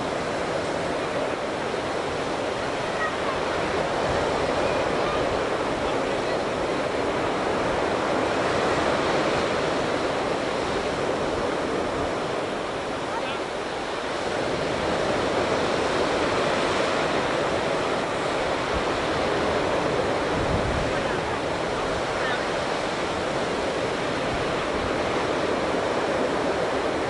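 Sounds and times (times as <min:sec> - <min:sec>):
surf breaking: 0:00.0 - 0:27.0
wind on microphone: 0:00.0 - 0:27.0.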